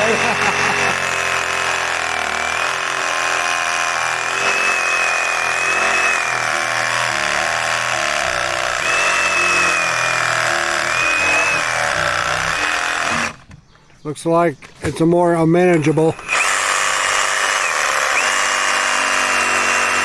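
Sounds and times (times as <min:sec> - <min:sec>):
power saw whining: 0:00.0 - 0:13.6, 0:15.4 - 0:20.0.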